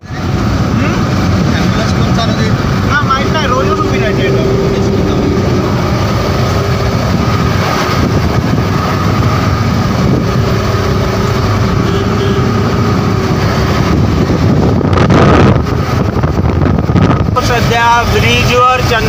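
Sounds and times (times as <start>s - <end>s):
pickup engine and road noise: 0.0s - 19.0s
wind buffeting microphone: 0.2s - 18.5s.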